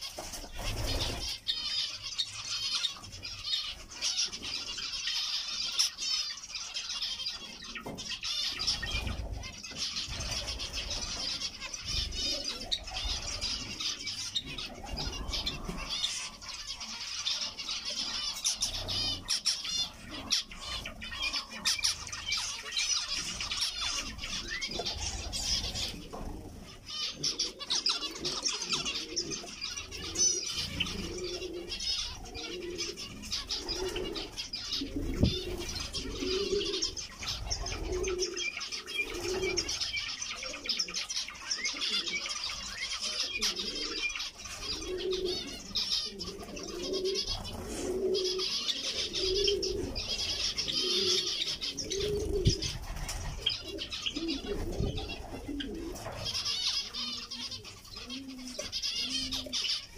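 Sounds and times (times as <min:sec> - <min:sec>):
dove cooing: 0:00.0 - 0:59.9
finches chattering: 0:00.0 - 0:59.9.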